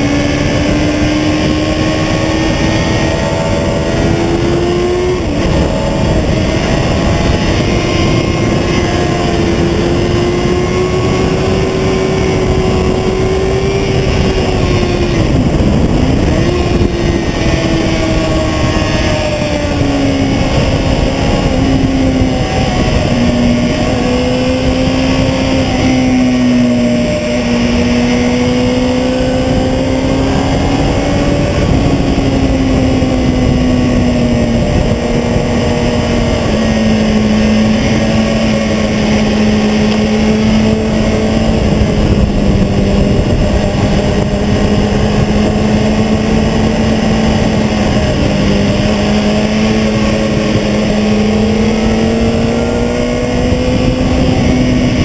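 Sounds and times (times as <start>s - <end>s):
motorcycle engine at high revs: 0.0s - 55.0s
wind rush: 0.0s - 55.0s.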